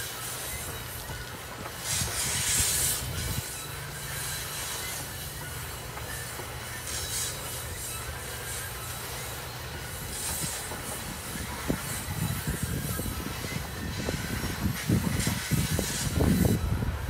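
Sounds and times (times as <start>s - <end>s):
high-pitched wheel squeal: 0.0s - 17.0s
train wheels rumbling on rail: 0.0s - 17.0s.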